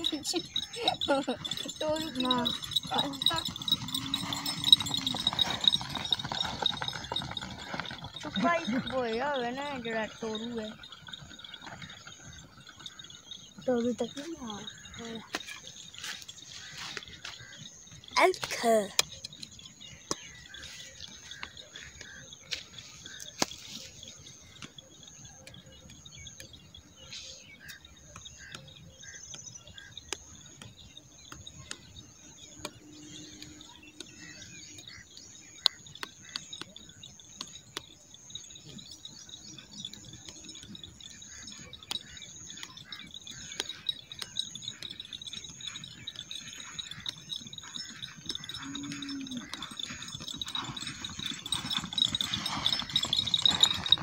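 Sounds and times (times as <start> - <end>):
bird chirps: 0.0 - 54.0
insects chirring: 0.0 - 54.0.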